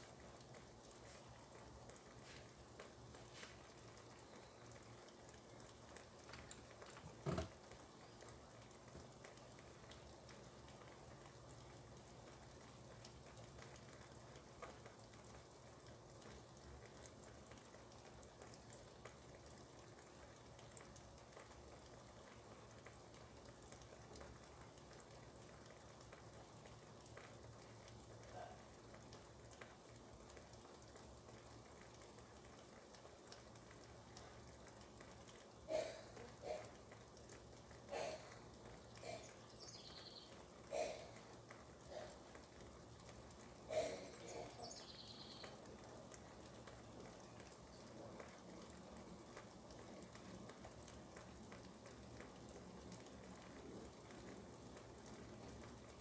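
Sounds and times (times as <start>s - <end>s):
faint rain with drops: 0.0s - 56.0s.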